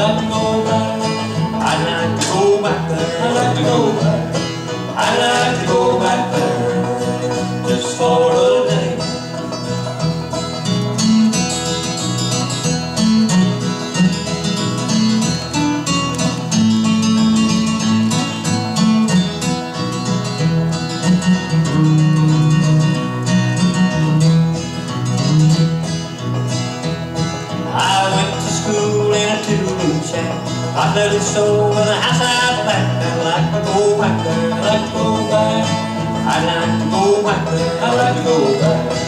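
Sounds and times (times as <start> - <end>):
bass line: 0.0 - 39.0
bluegrass band playing: 0.0 - 39.0
picked acoustic guitar: 0.0 - 39.0.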